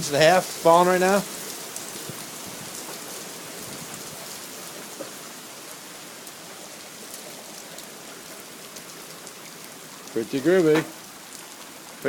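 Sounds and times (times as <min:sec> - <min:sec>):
hail striking ground: 0:00.0 - 0:12.0.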